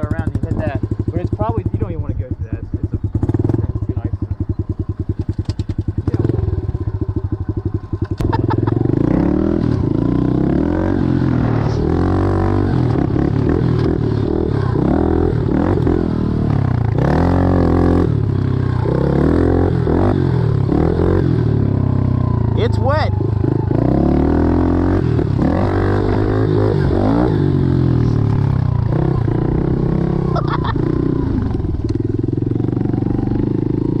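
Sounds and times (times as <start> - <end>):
small motorbike engine revving: 2.9 - 34.0.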